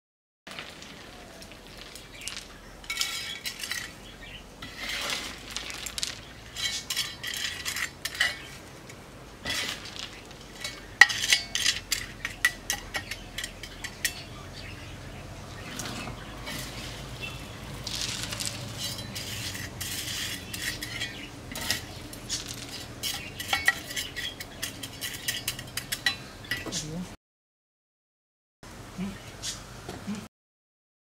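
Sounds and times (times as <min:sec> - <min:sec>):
gritty soil rattling and crunching: 0:00.5 - 0:26.0.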